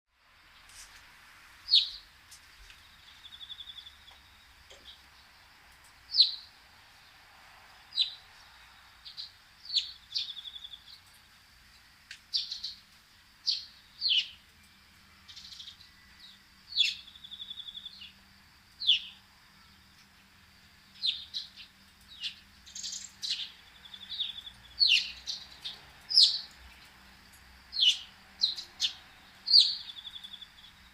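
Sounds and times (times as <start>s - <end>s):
songbird chirps: 0.2s - 30.9s.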